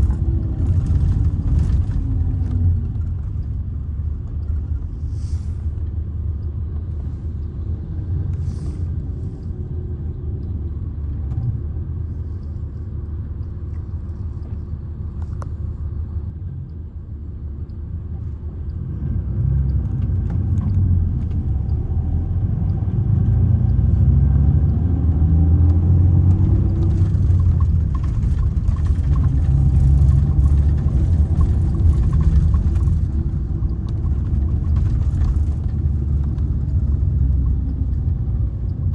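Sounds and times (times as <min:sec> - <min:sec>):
coach diesel engine rumbling: 0:00.0 - 0:24.2, 0:25.4 - 0:38.9.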